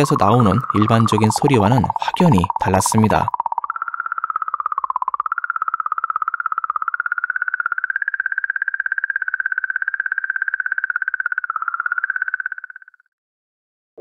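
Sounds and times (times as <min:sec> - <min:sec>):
high rapidly pulsing tone: 0:00.0 - 0:12.8.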